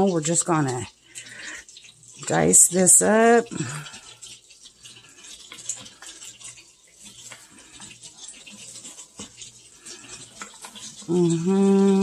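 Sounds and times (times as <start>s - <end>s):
butter sizzling in skillet: 0.0s - 12.0s.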